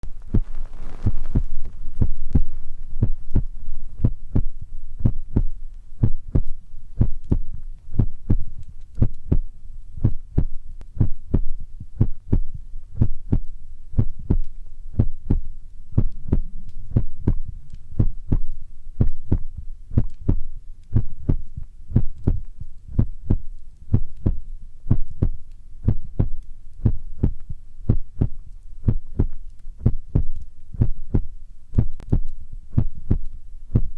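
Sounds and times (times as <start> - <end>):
soft low thuds: 0.0 - 33.9.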